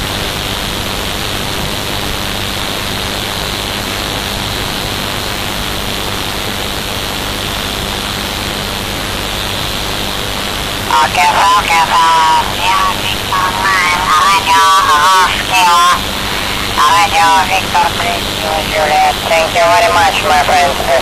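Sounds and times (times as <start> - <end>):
radio band noise hiss: 0.0 - 21.0.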